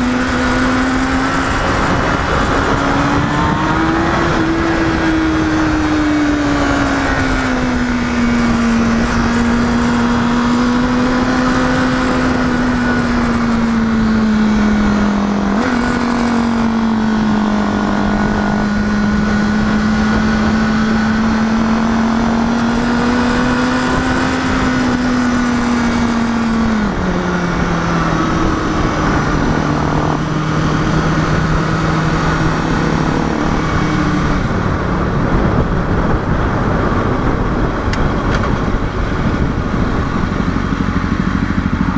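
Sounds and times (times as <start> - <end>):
wind rushing: 0.0 - 41.8
motorcycle engine running: 0.0 - 41.9.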